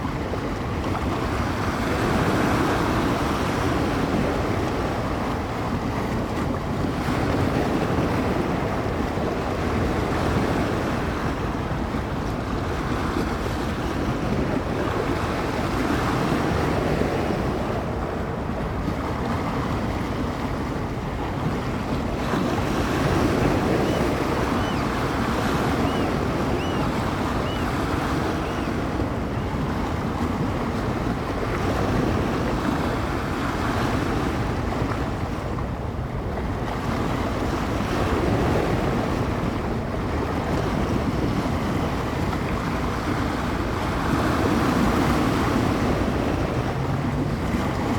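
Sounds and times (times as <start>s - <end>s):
waves washing on shore: 0.0s - 47.9s
wind gusting on microphone: 0.0s - 47.9s.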